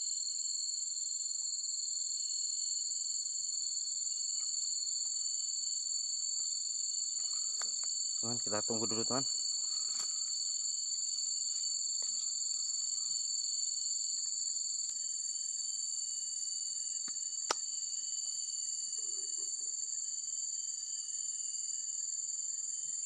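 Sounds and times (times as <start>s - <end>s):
insect chorus droning: 0.0s - 23.0s.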